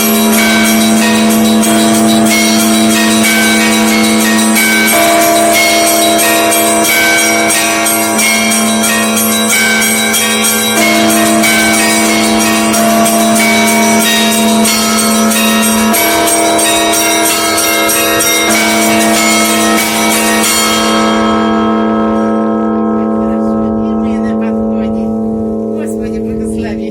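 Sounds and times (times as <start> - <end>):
large bell humming: 0.0 - 26.9
small bells striking rapidly: 0.0 - 26.9.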